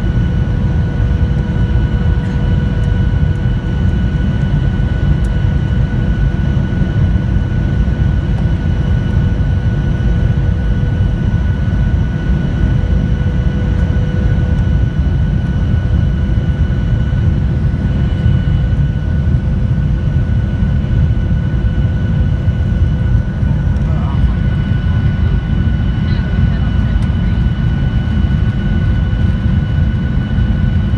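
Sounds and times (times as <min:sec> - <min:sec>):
airplane cabin rumble: 0:00.0 - 0:30.9
faint steady whines: 0:00.0 - 0:30.9.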